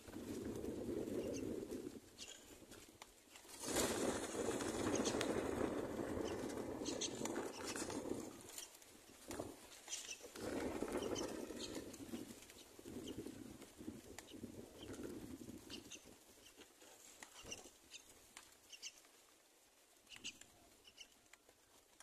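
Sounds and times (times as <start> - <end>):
wings fluttering: 0.0 - 22.0.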